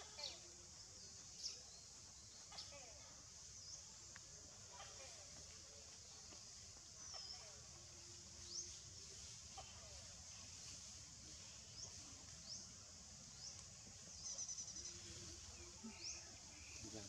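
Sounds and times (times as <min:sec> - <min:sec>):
small birds chirping: 0:00.0 - 0:17.0
steady high hiss: 0:00.0 - 0:17.0.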